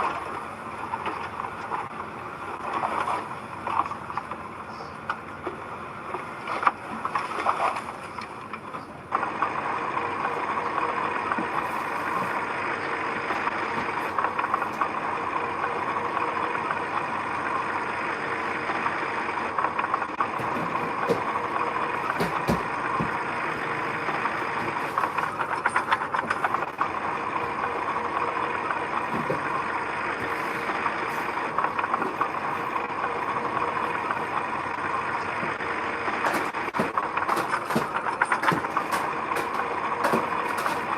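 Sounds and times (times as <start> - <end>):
heavy construction machinery running: 0.0 - 40.9.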